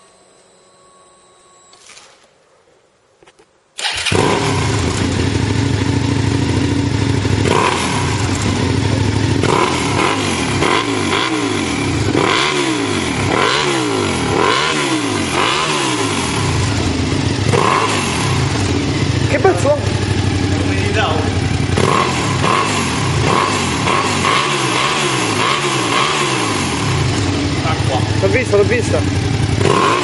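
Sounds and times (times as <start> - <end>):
motorcycle engine idling and revving: 3.8 - 30.0.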